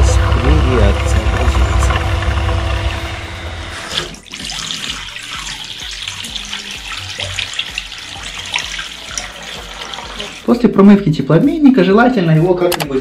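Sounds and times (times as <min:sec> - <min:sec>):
liquid splashing and gurgling into drain: 0:00.0 - 0:10.6
pump humming: 0:00.0 - 0:10.6.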